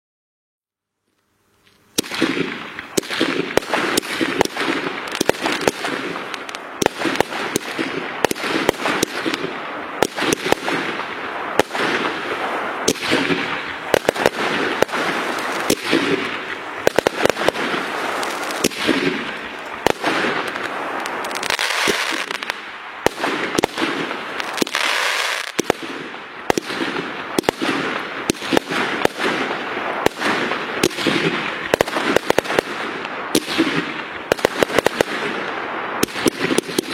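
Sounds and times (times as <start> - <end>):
rapid crackling and popping: 1.5 - 36.9.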